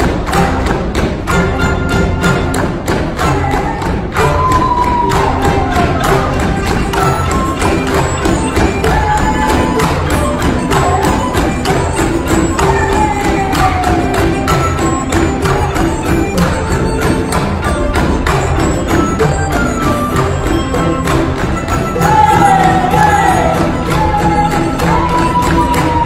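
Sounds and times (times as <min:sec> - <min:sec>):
sliding melody: 0:00.0 - 0:26.0
struck percussion: 0:00.0 - 0:26.0.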